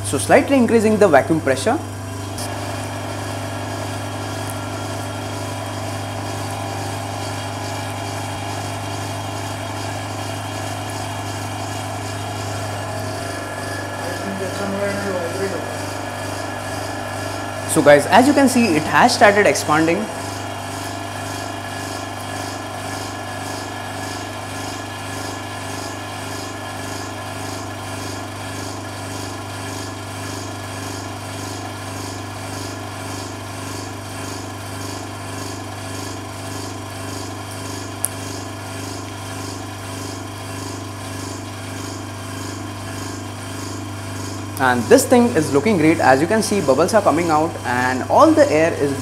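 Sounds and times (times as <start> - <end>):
vacuum pump humming: 0.0 - 49.0.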